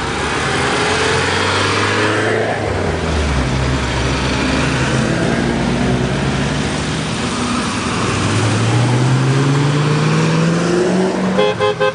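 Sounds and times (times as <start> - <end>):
cars driving past: 0.0 - 11.9
car accelerating away: 0.2 - 11.4.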